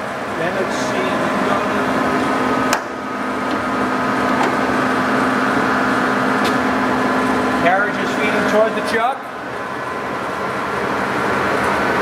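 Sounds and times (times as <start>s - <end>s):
lathe mechanical hum and whine: 0.0s - 12.0s.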